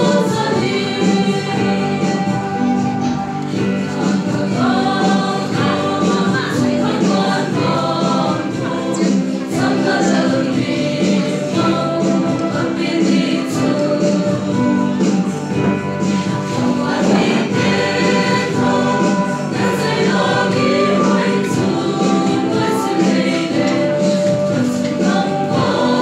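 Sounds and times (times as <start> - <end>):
mixed choir singing: 0.0 - 26.0.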